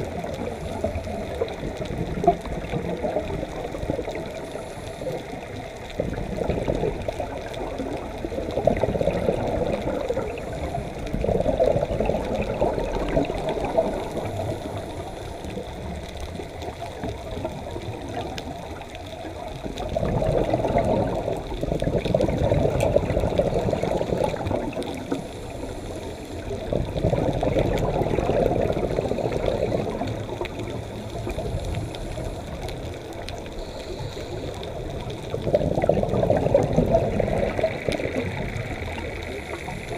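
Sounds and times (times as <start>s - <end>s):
underwater regulator bubbling: 0.0s - 39.9s.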